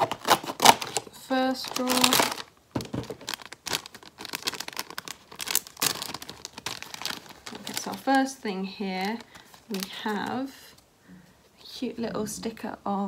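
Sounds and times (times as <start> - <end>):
packet crinkling and tearing: 0.0 - 10.6.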